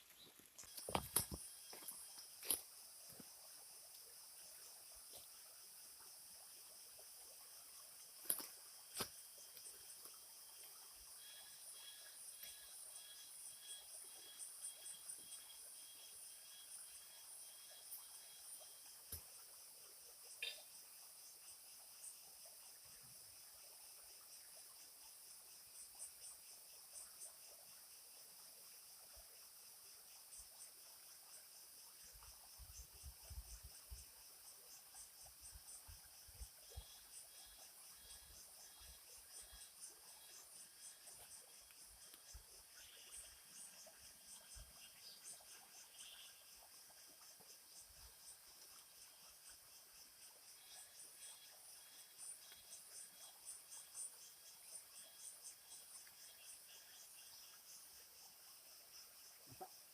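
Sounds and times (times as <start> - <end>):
forest insects droning: 0.0 - 59.9.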